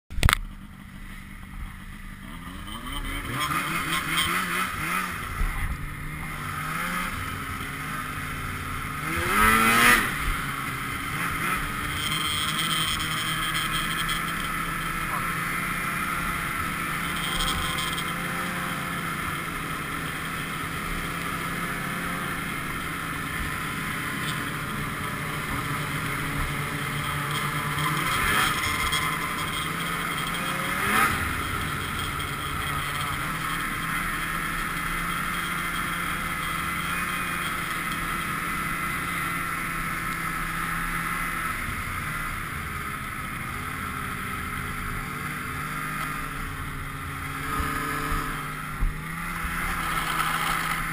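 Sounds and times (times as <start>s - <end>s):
snowmobile engine running: 0.1s - 50.9s.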